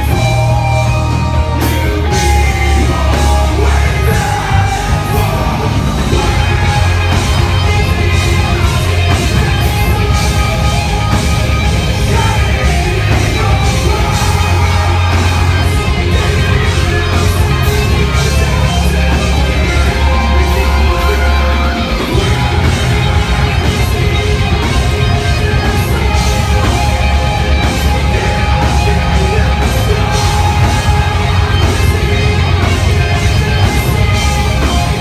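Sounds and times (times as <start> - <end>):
metalcore band playing: 0.0 - 35.0.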